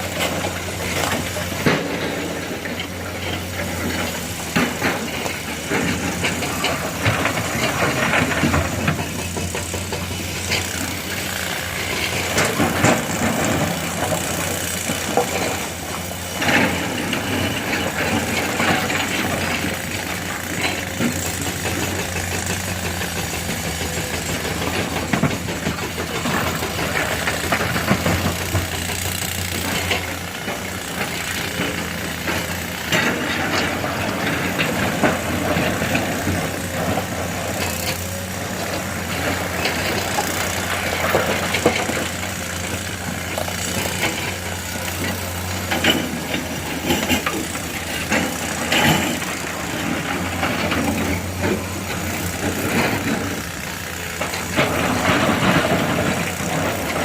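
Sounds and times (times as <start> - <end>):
heavy diesel machinery running: 0.0 - 57.0
metal clanks and rattles: 0.1 - 57.0.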